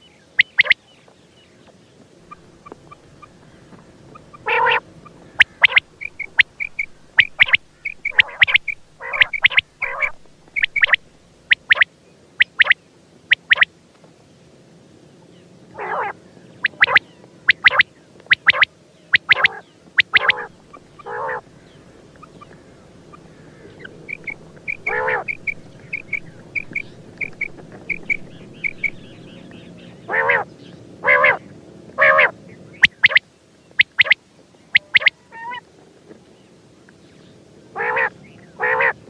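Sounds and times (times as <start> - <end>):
quail calling: 0.4 - 0.8, 2.2 - 13.7, 15.8 - 31.4, 32.0 - 33.2, 33.8 - 35.6, 37.8 - 39.0.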